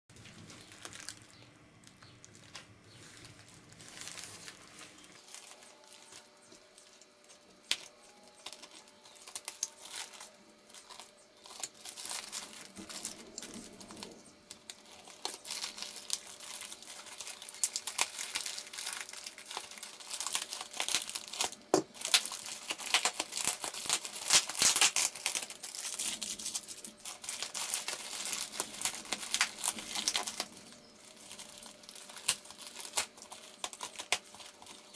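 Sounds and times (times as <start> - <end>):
plastic bag crinkling and tearing: 0.1 - 34.9.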